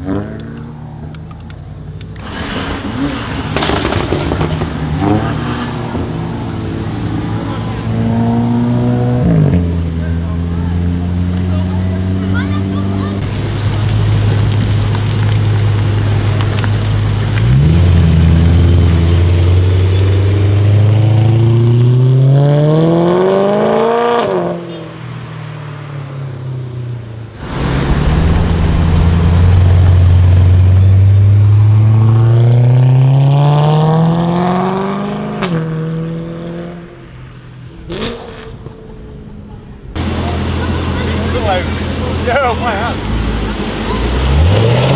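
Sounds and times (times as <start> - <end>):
car engine revving: 2.2 - 24.9, 26.3 - 37.2, 40.0 - 44.9.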